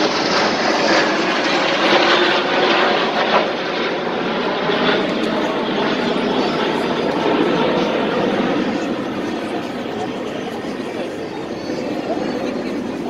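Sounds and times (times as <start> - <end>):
light aircraft engines droning: 0.0 - 13.0.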